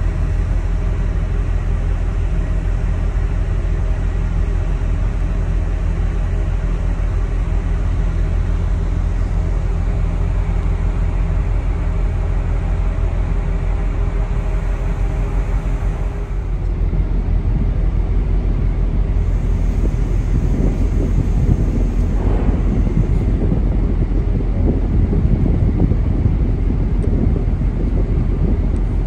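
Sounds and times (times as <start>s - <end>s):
faint hum: 0.0s - 29.0s
ship engines rumbling: 0.0s - 29.0s.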